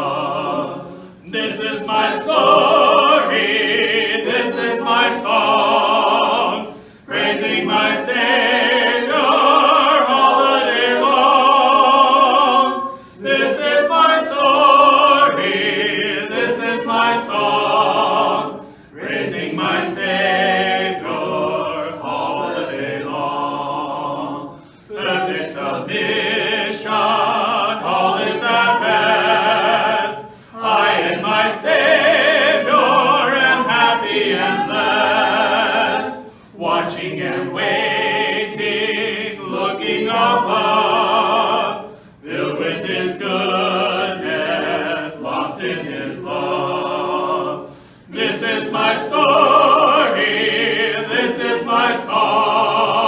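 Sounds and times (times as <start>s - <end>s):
group singing a hymn a cappella: 0.0s - 53.0s.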